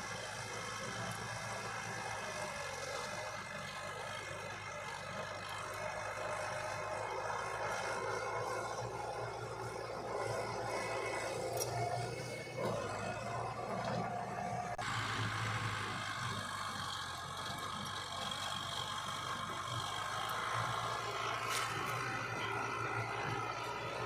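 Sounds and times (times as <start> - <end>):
diesel machinery running: 0.0 - 24.0.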